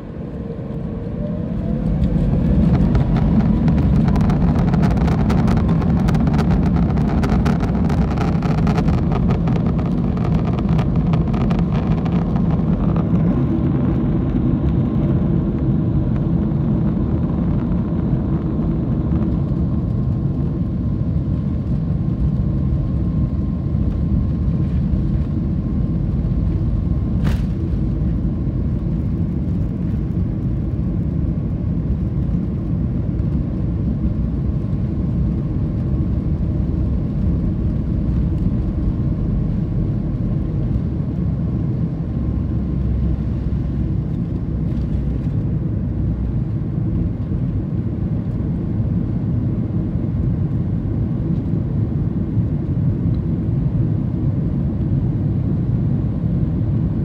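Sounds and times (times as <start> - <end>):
faint steady whine: 0.0 - 57.0
jet engine cabin rumble: 0.0 - 57.0.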